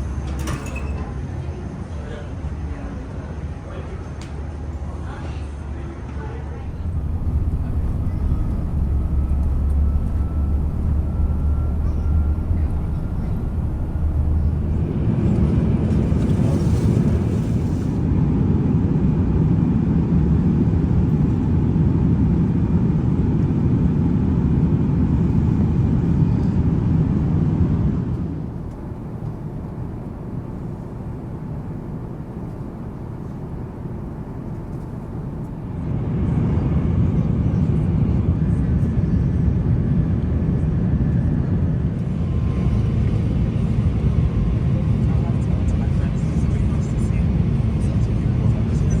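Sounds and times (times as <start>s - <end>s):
jet airliner roar: 5.6s - 49.0s.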